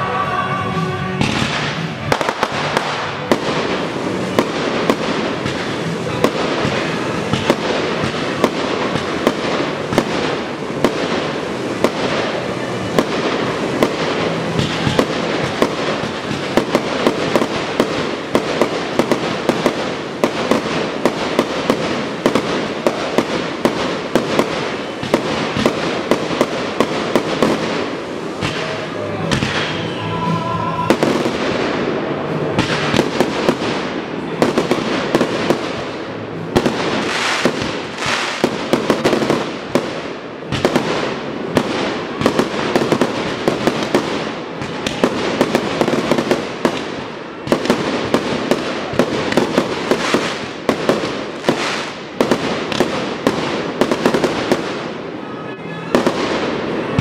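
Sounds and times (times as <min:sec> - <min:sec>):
firework crackle: 0:00.0 - 0:57.0.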